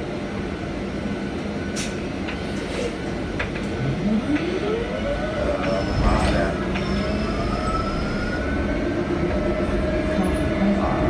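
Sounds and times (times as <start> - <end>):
bus cabin rumble: 0.1 - 11.0.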